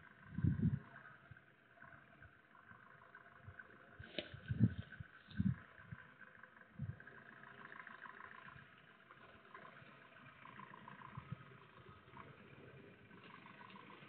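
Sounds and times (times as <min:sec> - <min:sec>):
faint vehicle engine running: 0:00.0 - 0:14.0.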